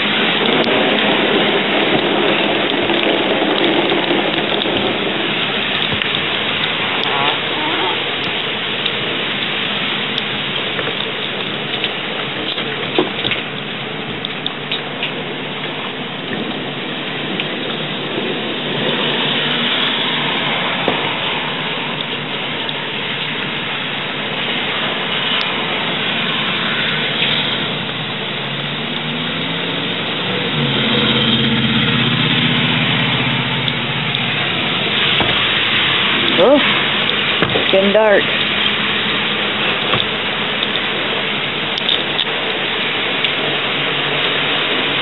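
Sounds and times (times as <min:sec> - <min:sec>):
heavy rain pouring: 0:00.0 - 0:45.0
vehicle engine hum: 0:00.0 - 0:45.0.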